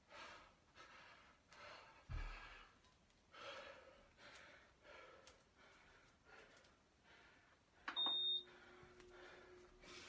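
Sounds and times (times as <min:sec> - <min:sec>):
heavy breathing: 0:00.0 - 0:07.9, 0:08.5 - 0:10.0.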